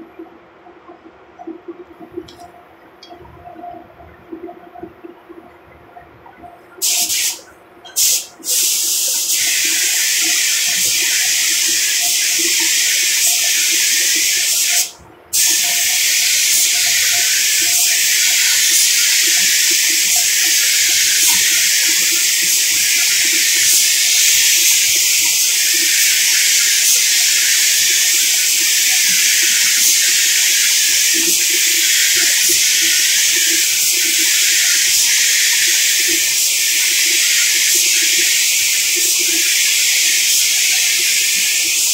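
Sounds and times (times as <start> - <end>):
spray gun hissing: 6.8 - 7.4, 8.0 - 41.9.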